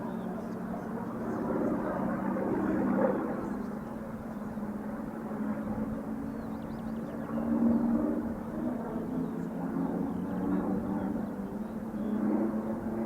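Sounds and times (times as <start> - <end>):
radial aircraft engine droning: 0.0 - 13.0.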